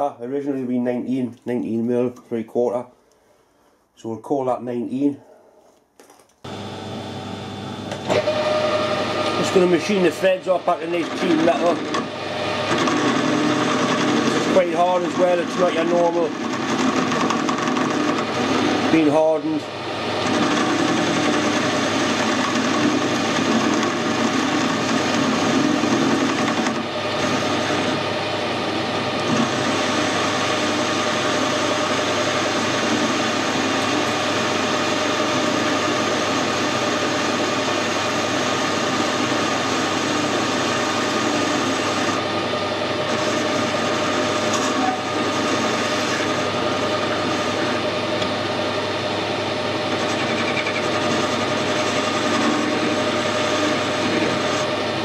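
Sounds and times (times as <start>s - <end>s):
metal lathe machining steel: 7.8s - 55.0s.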